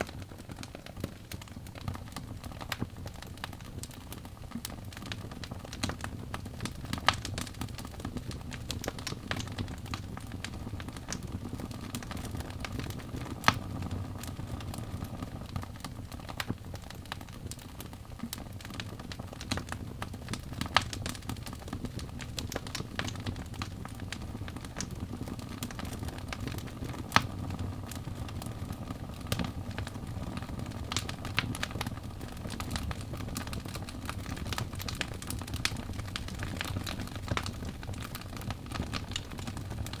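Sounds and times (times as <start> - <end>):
logs crackling and popping: 0.0 - 40.0
wood fire burning: 0.0 - 40.0.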